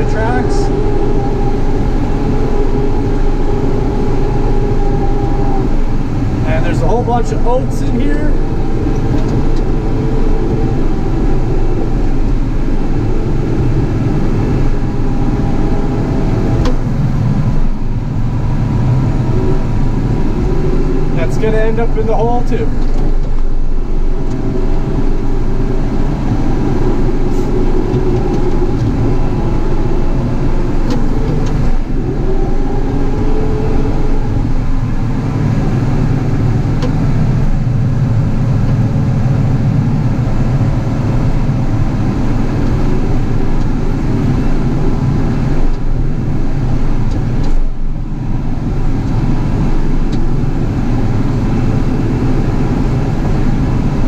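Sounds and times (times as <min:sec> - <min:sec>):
diesel engine working under load: 0:00.0 - 0:54.0.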